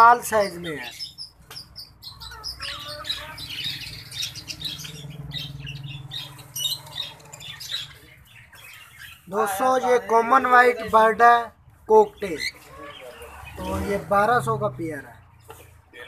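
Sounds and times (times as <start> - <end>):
caged birds chirping and squawking: 0.0 - 16.0.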